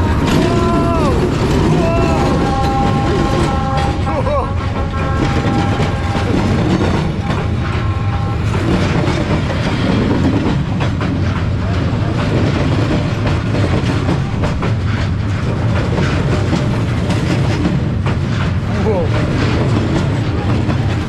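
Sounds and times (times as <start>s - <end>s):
train rumbling past: 0.0s - 21.0s
wheels clattering over rails: 0.0s - 21.0s.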